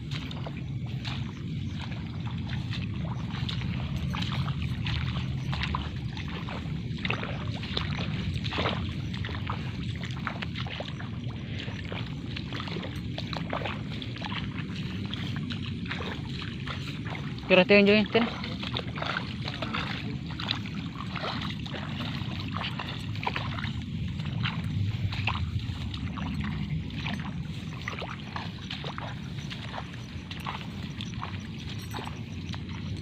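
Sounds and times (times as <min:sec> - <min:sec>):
steady low rumble: 0:00.0 - 0:33.0
water sloshing and splashing: 0:00.0 - 0:33.0.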